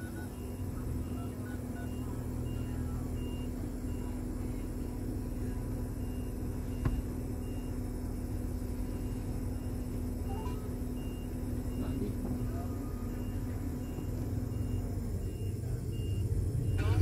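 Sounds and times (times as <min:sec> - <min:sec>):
car engine and cabin hum: 0:00.0 - 0:17.0.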